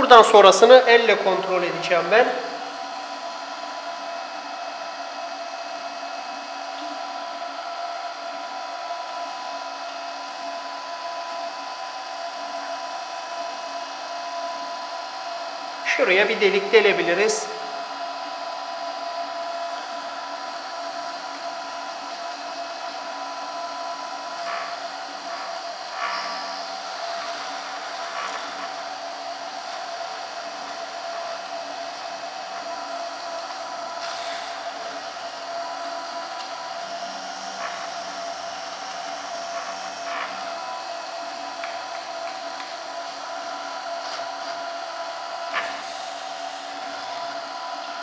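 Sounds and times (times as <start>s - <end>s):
spindle motor whine: 0.0s - 48.0s.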